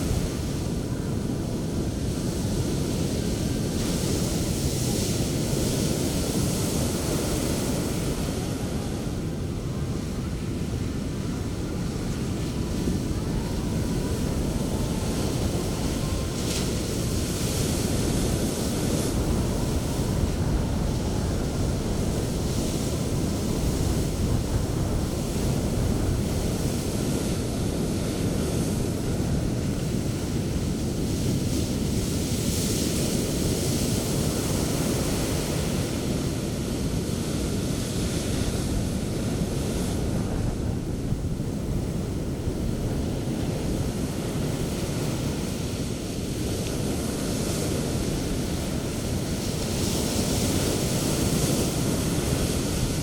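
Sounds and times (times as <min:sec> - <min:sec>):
surf breaking on beach: 0:00.0 - 0:53.0
wind on microphone: 0:00.0 - 0:53.0.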